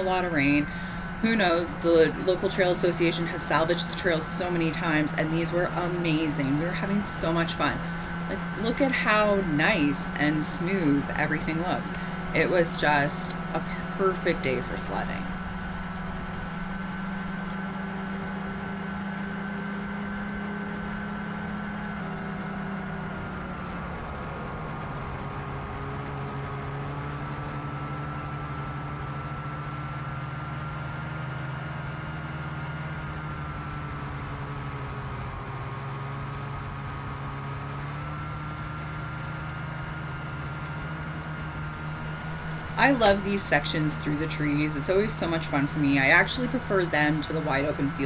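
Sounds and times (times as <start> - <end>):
snowmobile engine running: 0.0 - 19.3, 20.3 - 48.0.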